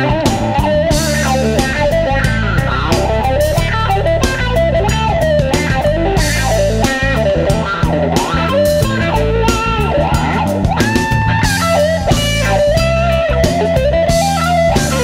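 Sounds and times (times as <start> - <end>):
bass guitar: 0.0 - 15.0
drum kit with cymbal hits: 0.0 - 15.0
electric guitar solo: 0.0 - 15.0.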